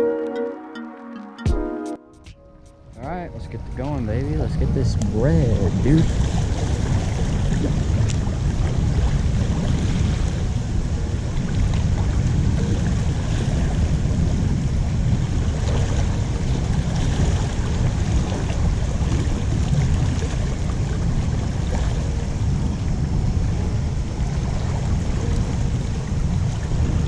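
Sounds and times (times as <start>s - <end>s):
wind buffeting microphone: 2.8s - 27.0s.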